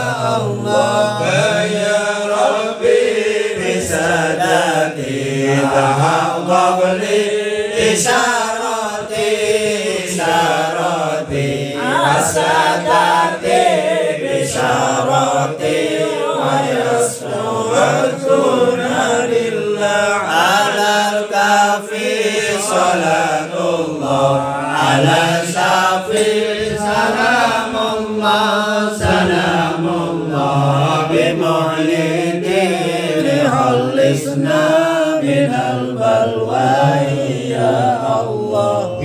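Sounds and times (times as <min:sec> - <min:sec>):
men chanting in unison: 0:00.0 - 0:39.0.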